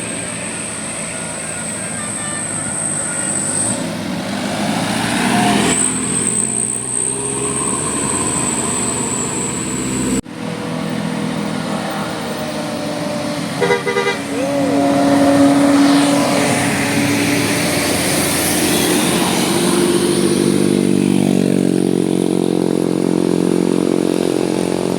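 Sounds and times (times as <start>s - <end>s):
traffic noise: 0.0s - 24.9s
vehicle engine passing: 0.0s - 24.9s.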